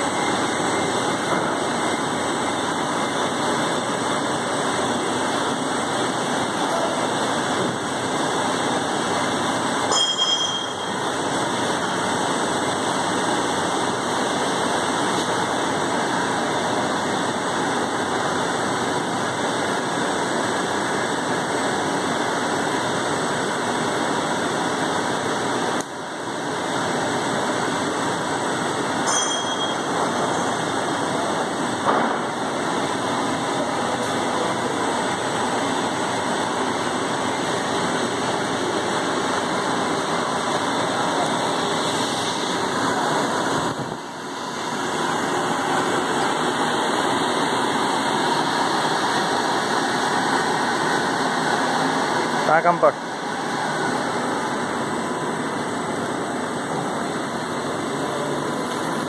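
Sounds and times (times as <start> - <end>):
steady machine noise: 0.0 - 59.0.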